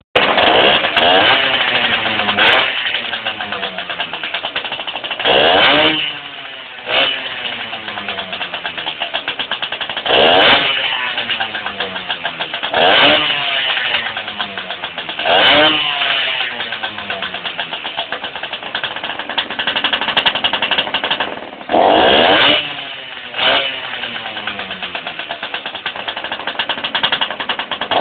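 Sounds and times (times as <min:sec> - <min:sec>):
motorcycle engine revving: 0:00.2 - 0:28.0.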